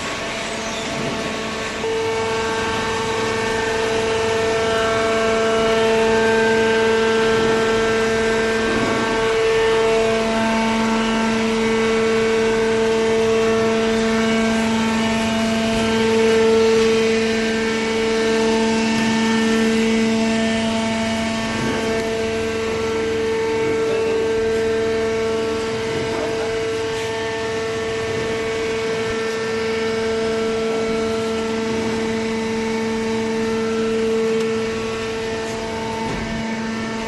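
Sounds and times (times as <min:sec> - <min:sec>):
hydraulic machine hum: 0:00.0 - 0:37.0.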